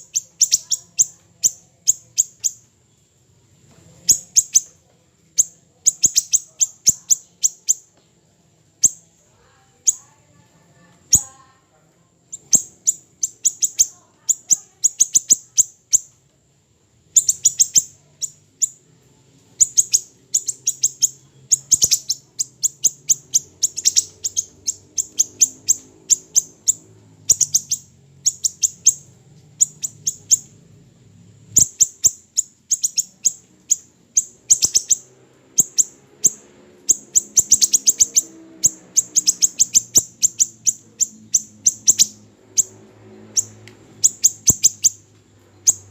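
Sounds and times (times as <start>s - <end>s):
faint low hum: 0.0s - 45.9s
songbird chirping: 0.0s - 45.9s.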